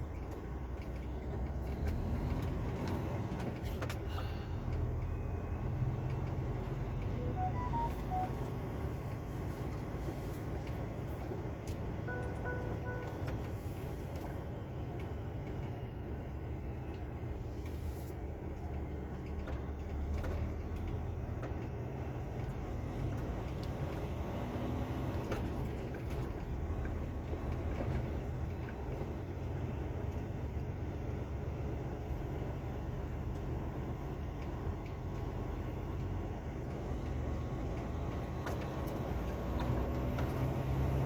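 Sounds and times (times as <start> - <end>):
road noise: 0.0 - 41.0
truck engine rumble: 0.0 - 41.0.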